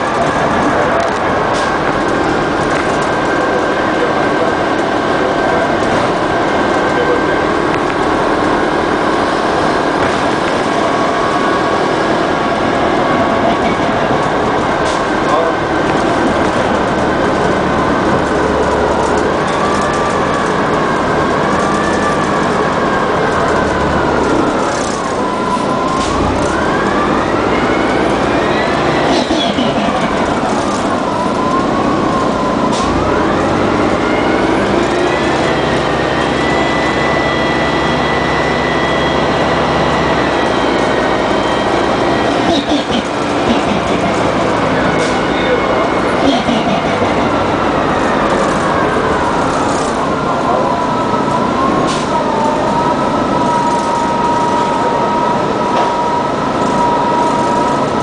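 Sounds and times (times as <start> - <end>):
bus drivetrain drone and whine: 0.0 - 58.0.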